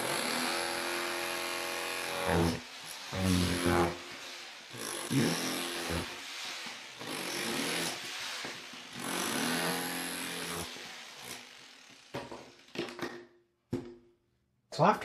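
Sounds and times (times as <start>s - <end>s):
rotary hammer chiseling tile: 0.0s - 12.6s.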